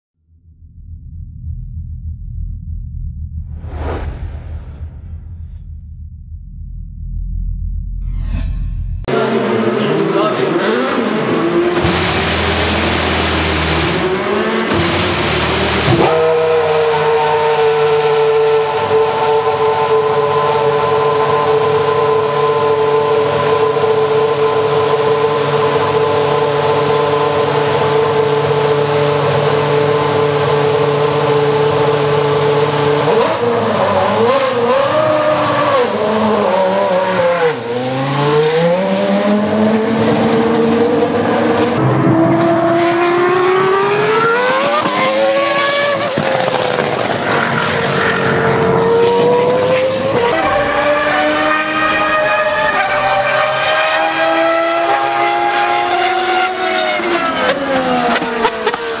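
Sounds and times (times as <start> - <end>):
racing car engine revving: 8.0 - 59.0.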